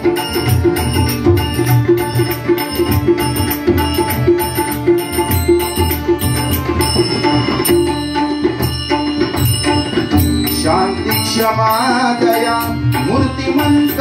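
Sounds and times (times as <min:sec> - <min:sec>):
pakhawaj drum: 0:00.0 - 0:14.0
small hand cymbals ringing: 0:00.0 - 0:14.0
sustained harmonium notes: 0:00.0 - 0:14.0
tabla brisk rhythm: 0:00.0 - 0:14.0.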